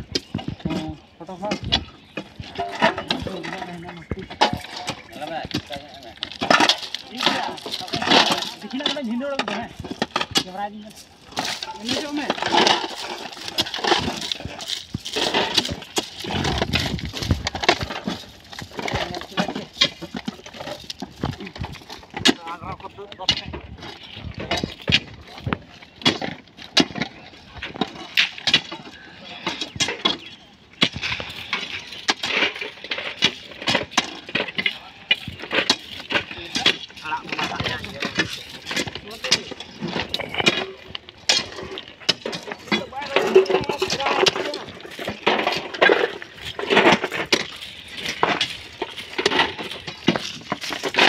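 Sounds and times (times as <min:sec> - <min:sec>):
stones clattering into metal pan: 0:00.0 - 0:51.0.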